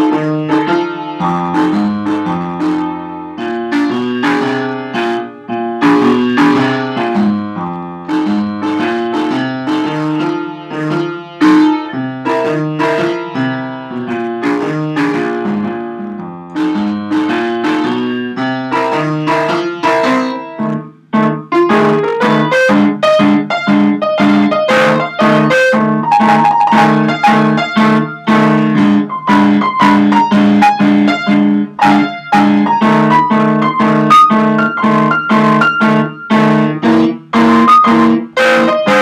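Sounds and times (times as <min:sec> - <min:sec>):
blues piano: 0:00.0 - 0:39.0.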